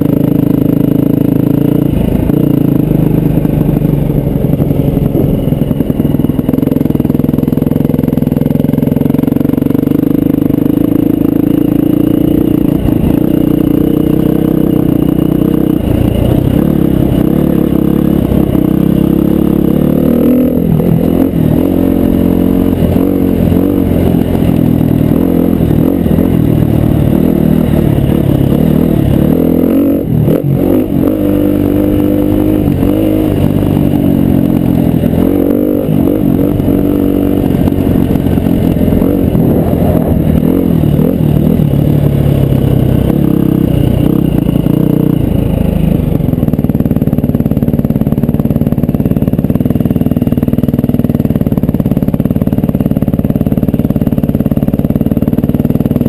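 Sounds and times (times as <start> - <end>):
dirt bike engine running hard: 0.0 - 56.0.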